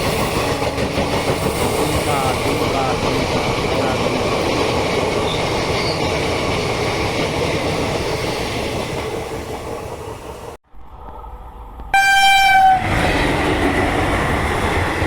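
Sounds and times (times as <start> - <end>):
train wheels clattering on rails: 0.0 - 10.6, 12.8 - 15.0.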